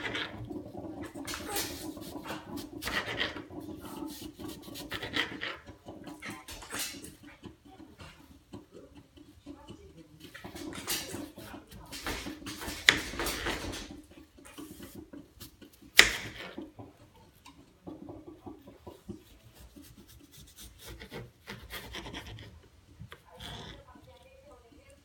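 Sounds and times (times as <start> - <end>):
rubbing and scraping: 0.0 - 16.9, 17.9 - 24.8.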